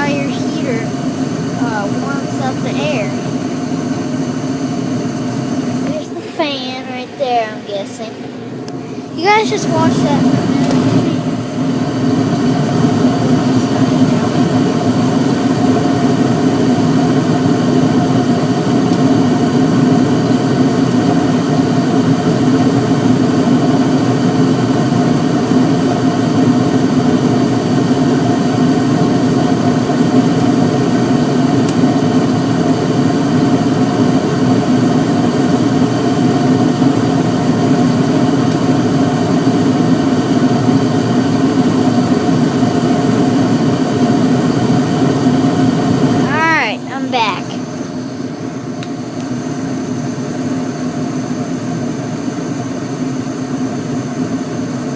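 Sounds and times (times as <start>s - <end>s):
gas furnace running: 0.0s - 54.9s.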